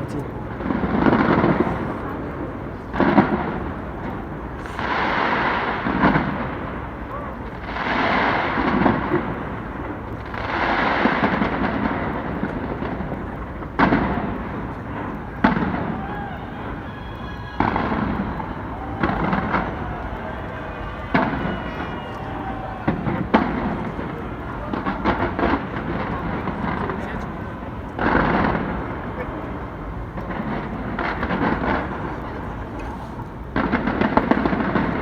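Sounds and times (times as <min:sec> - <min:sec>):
fireworks bangs: 0:00.0 - 0:35.0
fireworks crackling: 0:00.0 - 0:35.0
rumbling echo: 0:00.0 - 0:35.0.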